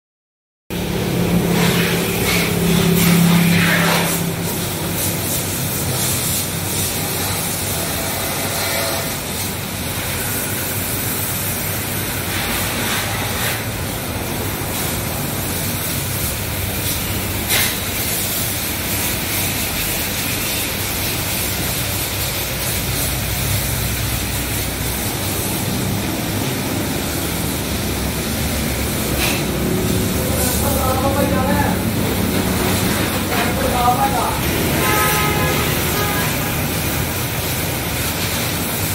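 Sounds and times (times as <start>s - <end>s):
water jet spraying hiss: 1.4s - 38.9s.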